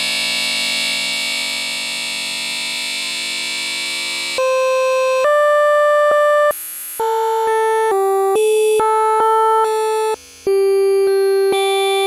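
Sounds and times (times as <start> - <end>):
buzzy held tone: 0.7 - 12.0.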